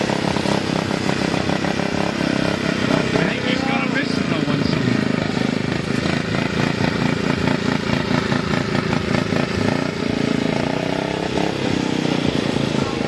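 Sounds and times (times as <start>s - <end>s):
lawn mower engines racing: 0.0s - 13.0s.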